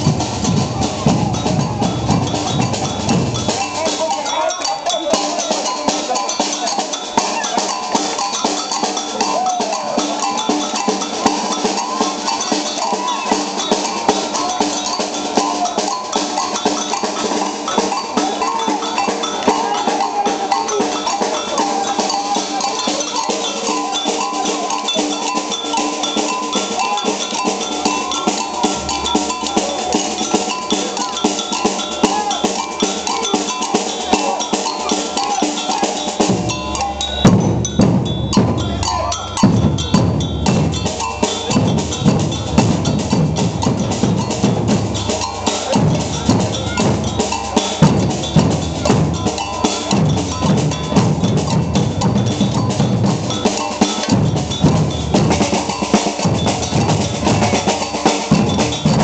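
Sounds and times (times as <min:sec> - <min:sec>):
clanking bell pattern: 0:00.0 - 0:59.0
percussion band playing: 0:00.0 - 0:59.0.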